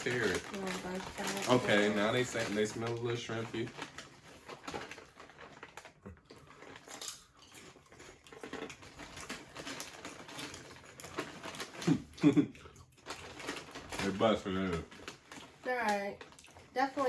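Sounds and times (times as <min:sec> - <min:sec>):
crunching crisp chips: 0:00.0 - 0:16.8.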